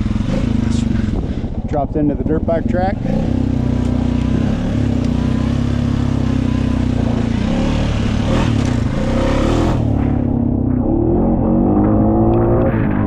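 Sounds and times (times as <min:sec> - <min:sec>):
atv engine running: 0:00.0 - 0:12.3.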